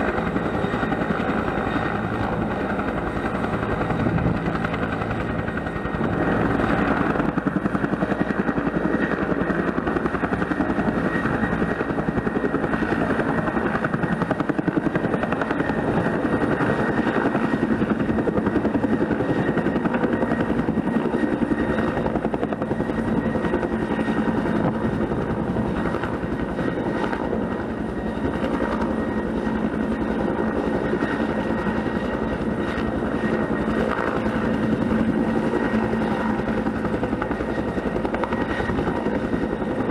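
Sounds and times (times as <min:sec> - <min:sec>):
helicopter rotor beating: 0:00.0 - 0:39.9
turbine engine whine: 0:00.0 - 0:39.9.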